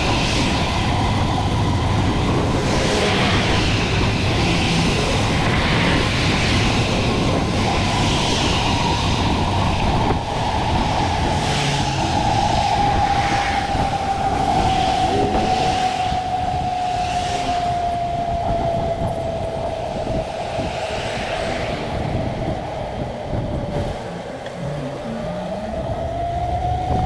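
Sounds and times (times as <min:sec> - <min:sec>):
steady whine: 0:00.0 - 0:27.0
wind rumbling on microphone: 0:00.0 - 0:27.0.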